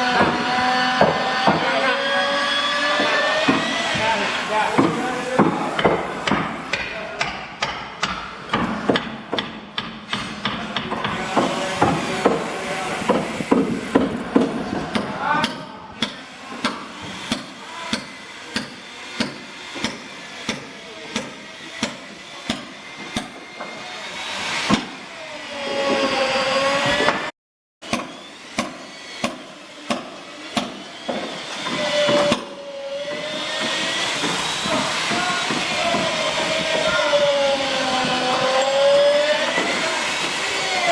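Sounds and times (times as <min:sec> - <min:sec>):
power tool running: 0:00.0 - 0:07.0, 0:11.0 - 0:14.4, 0:16.1 - 0:40.9
hammer blows on wood: 0:02.9 - 0:23.8, 0:27.8 - 0:40.4.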